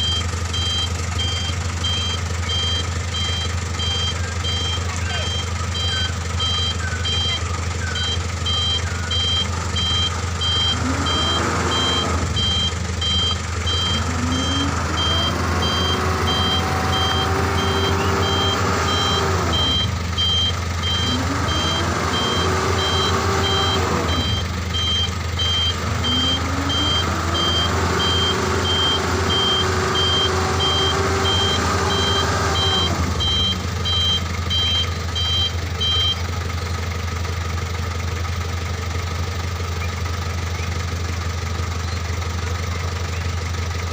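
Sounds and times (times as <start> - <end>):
truck reversing alarm beeping: 0.0 - 36.6
truck engine revving: 0.0 - 43.9.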